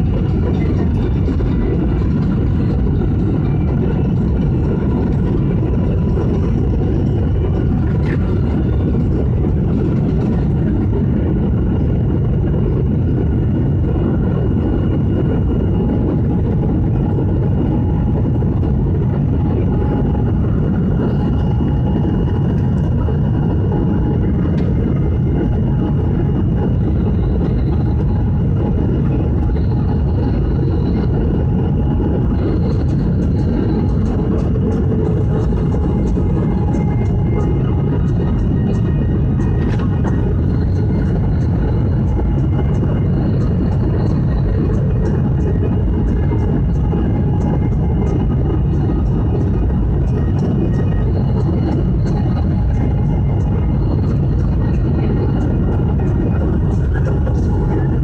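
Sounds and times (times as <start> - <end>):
aircraft engine rumble: 0.0 - 58.0
faint steady tones: 0.0 - 58.0.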